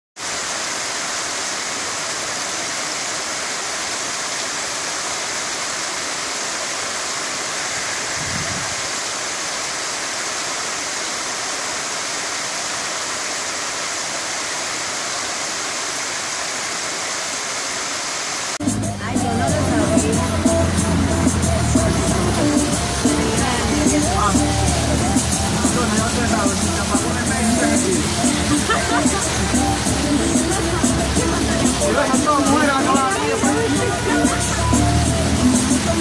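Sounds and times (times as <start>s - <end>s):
floodwater rushing: 0.2s - 36.0s.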